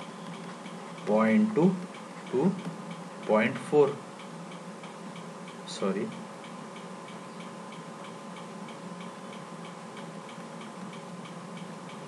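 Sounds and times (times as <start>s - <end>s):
faint steady hum: 0.0s - 12.0s
steady ticking: 0.0s - 12.0s.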